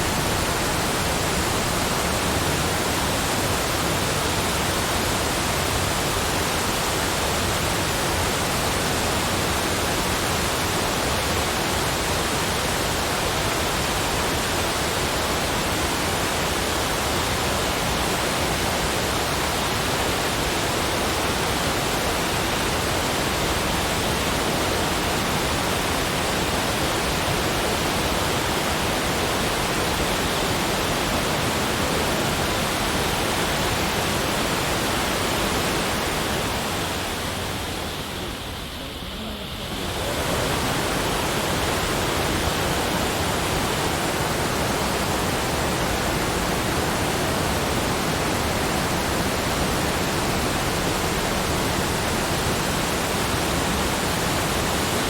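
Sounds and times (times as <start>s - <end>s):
rushing falling water: 0.0s - 55.0s.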